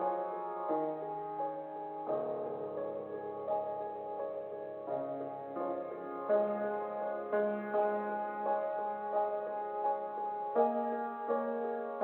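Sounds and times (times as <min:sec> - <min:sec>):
slow keyboard music: 0:00.0 - 0:12.0.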